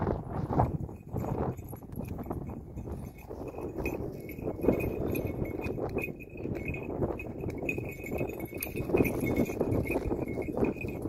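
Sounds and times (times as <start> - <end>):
small bell jingling: 0.7 - 11.0.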